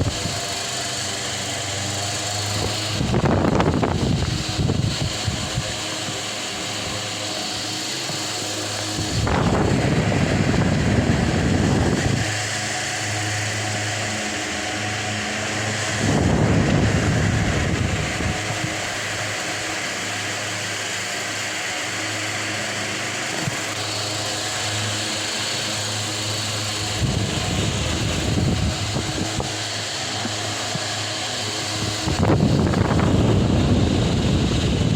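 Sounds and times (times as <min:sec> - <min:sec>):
wind buffeting microphone: 0:00.0 - 0:07.4, 0:08.1 - 0:20.7, 0:25.9 - 0:34.9
electric fan motor hum: 0:00.0 - 0:34.9
rushing air: 0:00.0 - 0:34.9.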